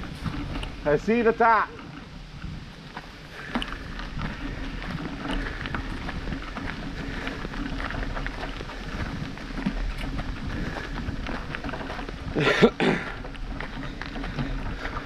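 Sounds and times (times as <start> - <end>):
gravel crunching: 0.0 - 15.0.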